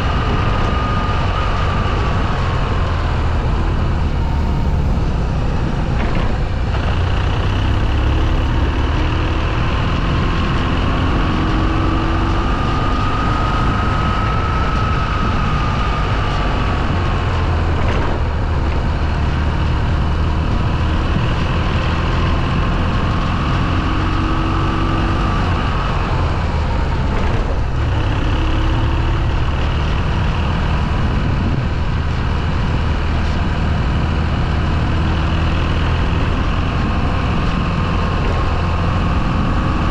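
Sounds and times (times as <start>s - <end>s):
faint engine whine: 0.0s - 39.9s
low rumble: 0.0s - 39.9s
motorcycle engine running: 0.0s - 39.9s.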